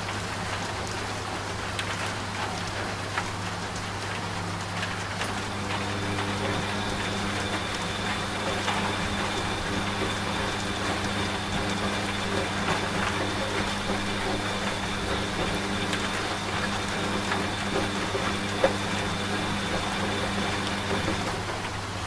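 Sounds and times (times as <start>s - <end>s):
rain falling: 0.0s - 22.0s
washing machine motor hum: 0.0s - 22.0s.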